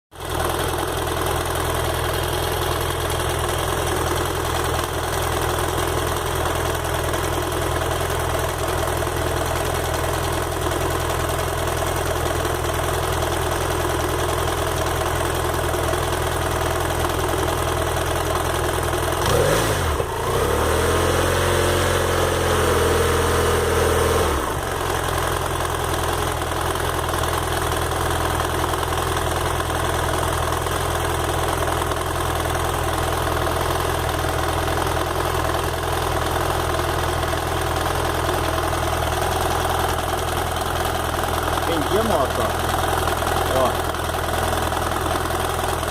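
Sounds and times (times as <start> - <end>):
motorcycle engine idling and revving: 0.1 - 45.9.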